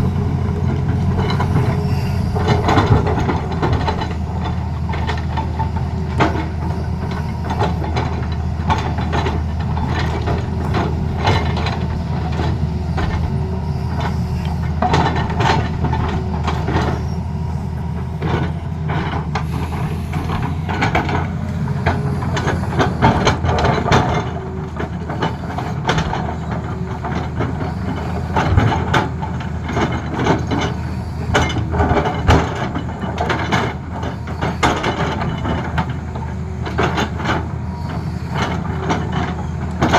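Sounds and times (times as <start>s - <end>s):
excavator diesel engine running: 0.0s - 39.9s
machine knocks and clatter: 0.0s - 39.9s.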